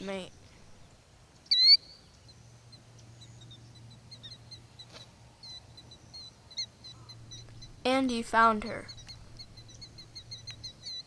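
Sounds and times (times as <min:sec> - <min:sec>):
faint low hum: 0:00.0 - 0:11.0
killdeer calling: 0:00.0 - 0:11.0.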